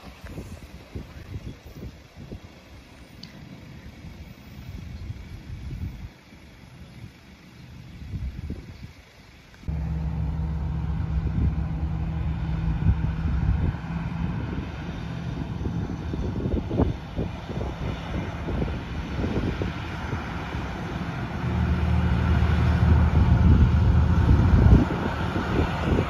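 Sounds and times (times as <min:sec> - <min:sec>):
locomotive engine drone: 0:02.5 - 0:26.0.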